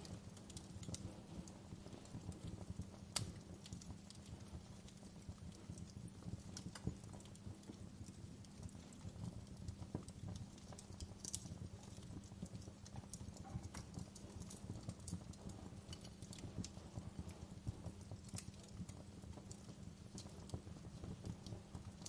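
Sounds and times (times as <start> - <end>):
fire flames rumbling: 0.0 - 22.0
wood fire crackling and popping: 0.0 - 22.0.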